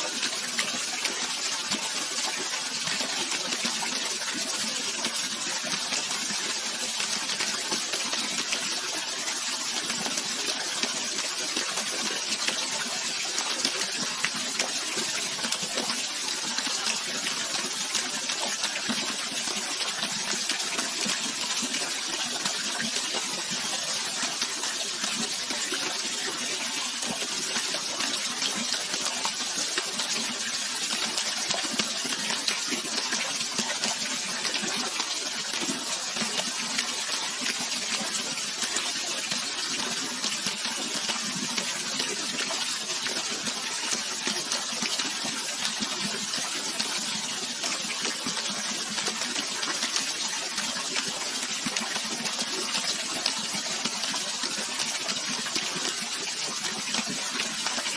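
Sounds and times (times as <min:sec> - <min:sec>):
rushing flowing water: 0:00.0 - 0:57.9.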